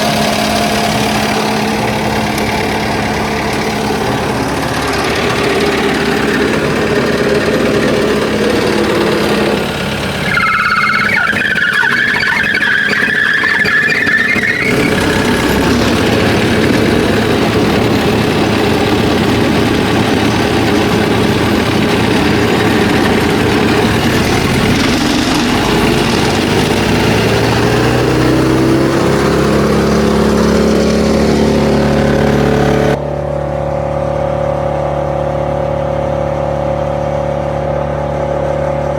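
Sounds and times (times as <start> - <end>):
high whine: 0.0 - 34.7
wood chipper diesel engine: 0.0 - 38.9.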